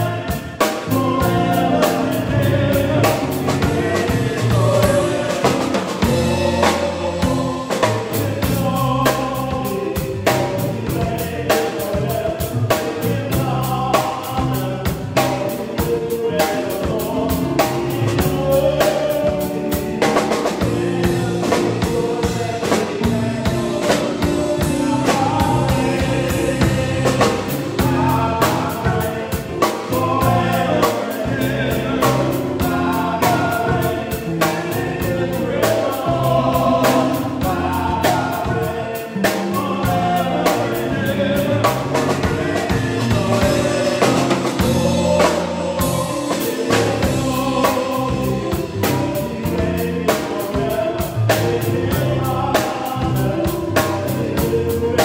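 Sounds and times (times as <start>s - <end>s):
drums steady beat: 0.0s - 55.0s
voices singing gospel: 0.0s - 55.0s.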